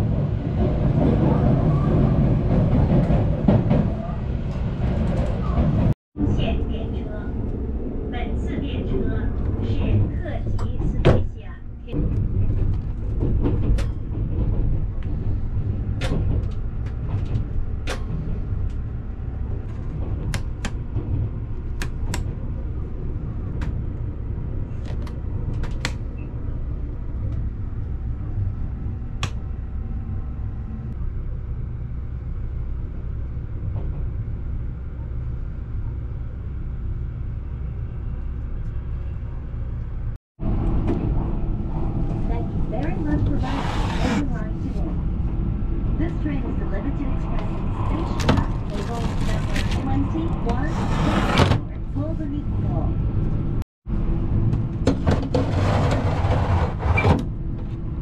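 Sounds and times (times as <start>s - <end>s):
electric train low rumble: 0.0s - 58.0s.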